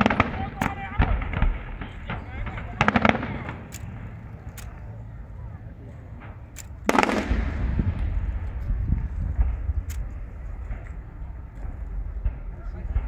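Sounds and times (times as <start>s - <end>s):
fireworks bang with low rumble: 0.0s - 4.5s, 5.6s - 13.0s
fireworks cracking: 0.0s - 5.0s, 6.0s - 13.0s.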